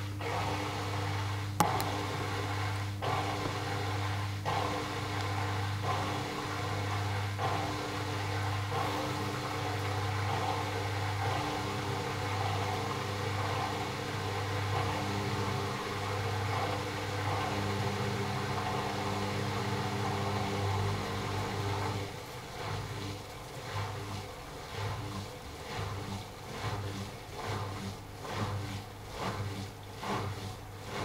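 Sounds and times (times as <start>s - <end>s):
washing machine motor hum: 0.0s - 31.0s.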